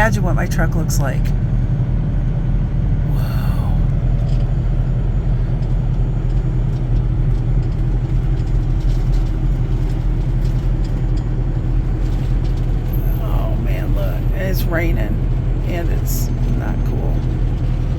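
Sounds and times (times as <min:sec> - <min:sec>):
truck engine idling: 0:00.0 - 0:17.9.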